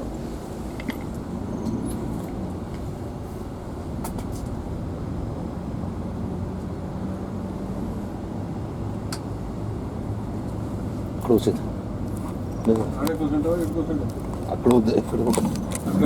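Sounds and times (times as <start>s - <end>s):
car engine hum: 0.0s - 16.0s
road rumble: 0.0s - 16.0s.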